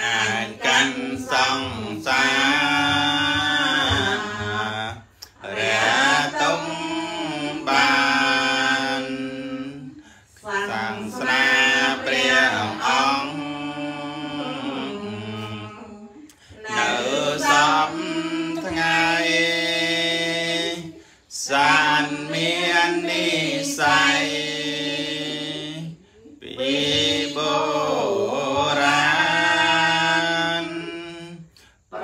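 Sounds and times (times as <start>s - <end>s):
voices chanting: 0.0s - 32.0s.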